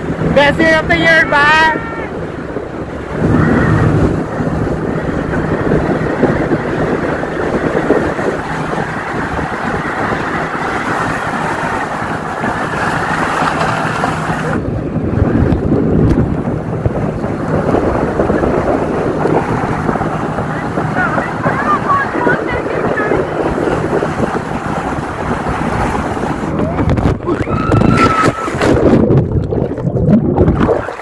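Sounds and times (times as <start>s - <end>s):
boat engine hum: 0.0s - 31.0s
water rushing and splashing: 0.0s - 31.0s
wind buffeting microphone: 0.0s - 31.0s.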